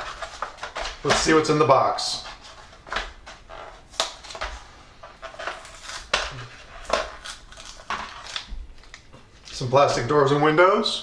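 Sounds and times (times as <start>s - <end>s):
packaging crackling and rustling: 0.0s - 1.4s, 2.2s - 9.7s.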